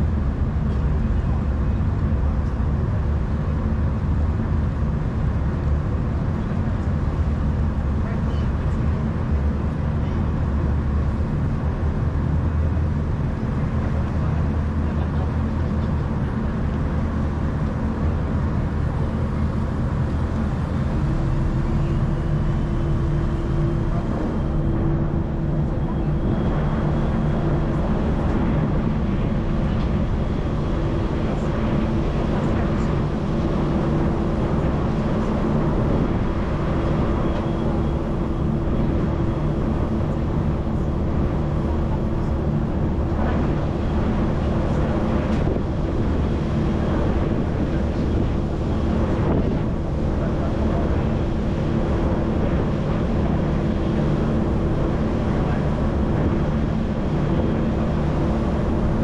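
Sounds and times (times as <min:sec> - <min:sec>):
ship engines droning: 0:00.0 - 0:59.0.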